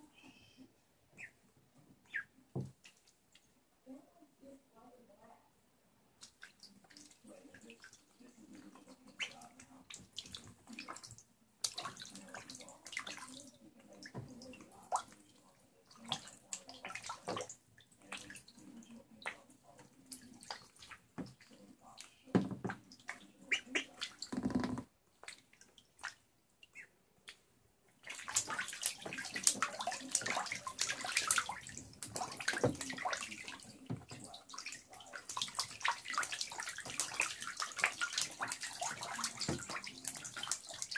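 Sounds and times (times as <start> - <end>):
ducklings splashing in water: 1.1 - 1.4, 2.0 - 4.6, 6.2 - 24.6, 25.2 - 40.9.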